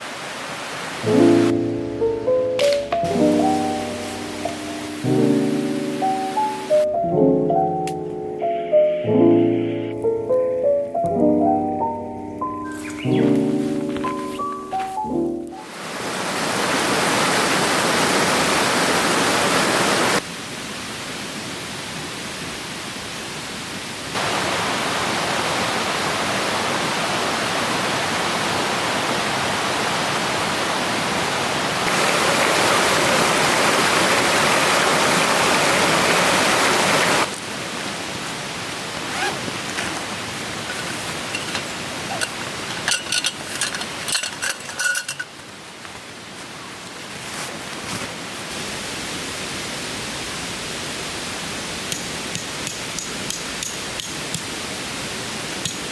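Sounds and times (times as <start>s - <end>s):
stream water rushing: 0.0s - 8.5s, 10.0s - 55.9s.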